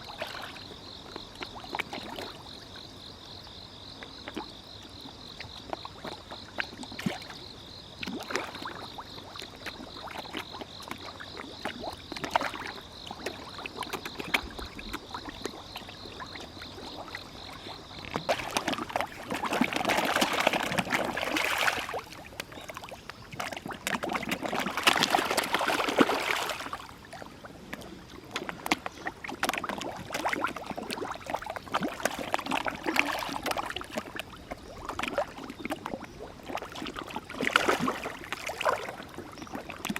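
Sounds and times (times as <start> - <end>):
fish splashing and slurping: 0.0 - 2.6, 4.0 - 39.9.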